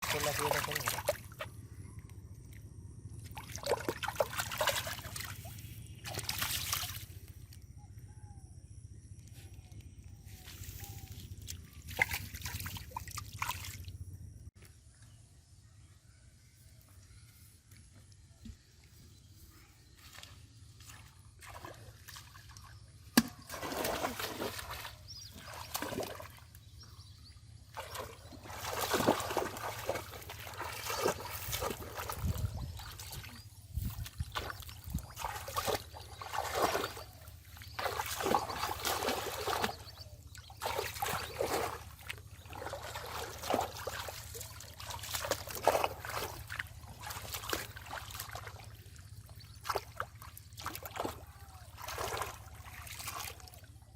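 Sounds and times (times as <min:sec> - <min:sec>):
water splashing and sloshing: 0:00.0 - 0:01.7, 0:02.4 - 0:07.6, 0:10.4 - 0:14.2, 0:18.4 - 0:53.9.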